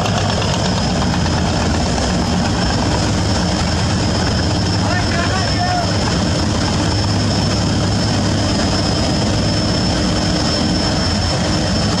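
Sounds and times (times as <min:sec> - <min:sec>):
boat engines droning: 0:00.0 - 0:12.0
rushing water and wind: 0:00.0 - 0:12.0.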